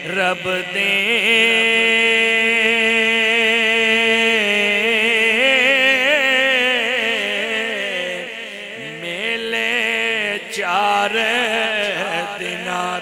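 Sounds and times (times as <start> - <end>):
man singing devotional verse: 0.0 - 13.0.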